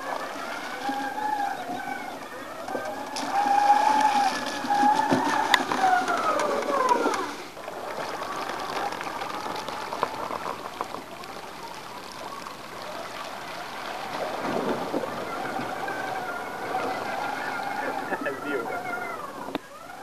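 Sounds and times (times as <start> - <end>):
faint electric motor whine: 0.0 - 20.0
water splashing and churning: 0.0 - 20.0.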